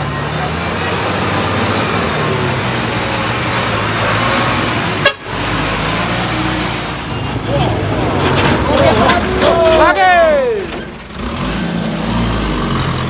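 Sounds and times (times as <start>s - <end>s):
heavy diesel engines running: 0.0s - 13.0s.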